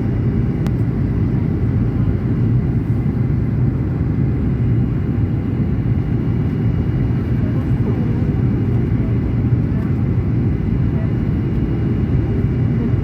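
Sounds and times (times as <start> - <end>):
airplane rumble: 0.0 - 13.0.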